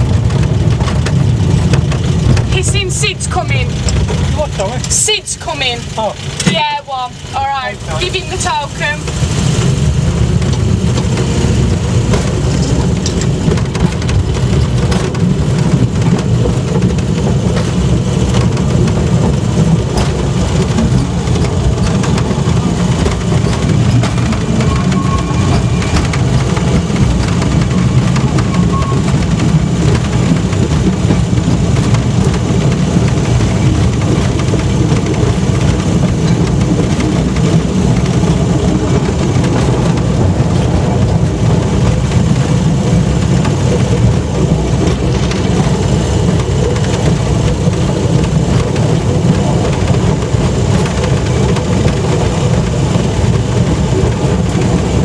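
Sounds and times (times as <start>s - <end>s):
rumble of running gear on track: 0.0s - 55.0s
vehicle engine running: 0.0s - 55.0s.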